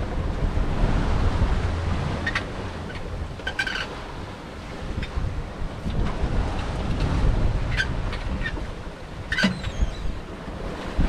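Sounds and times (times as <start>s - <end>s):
water rushing past boat: 0.0s - 11.0s
wind buffeting microphone: 0.0s - 11.0s.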